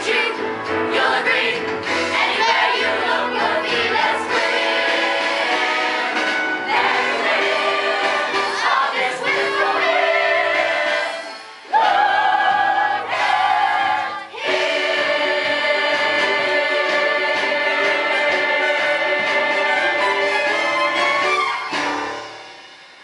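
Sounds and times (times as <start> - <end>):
ensemble singing a show tune: 0.0 - 21.4
musical accompaniment: 0.0 - 23.0.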